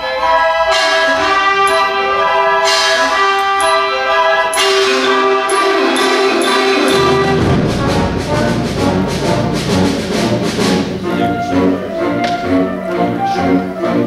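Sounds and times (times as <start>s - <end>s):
wind band with brass playing: 0.0s - 14.0s.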